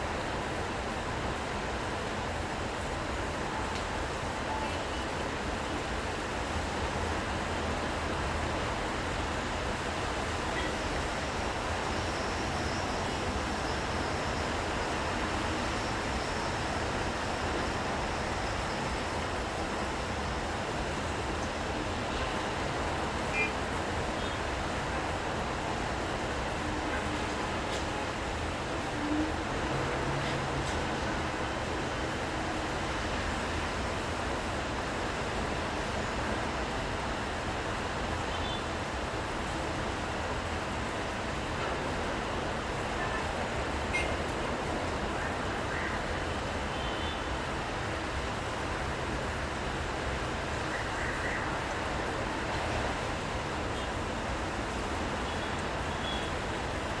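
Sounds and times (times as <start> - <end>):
rain: 0.0 - 57.0
traffic: 0.0 - 57.0.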